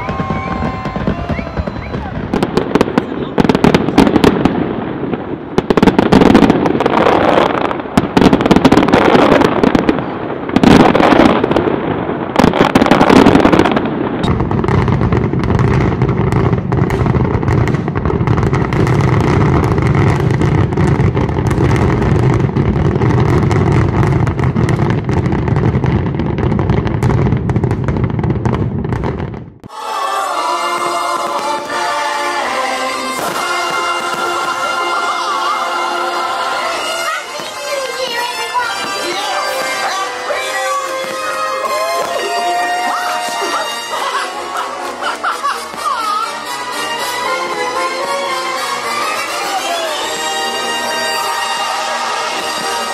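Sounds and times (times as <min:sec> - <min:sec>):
fireworks bangs: 0:00.0 - 0:52.9
fireworks crackling: 0:00.0 - 0:52.9.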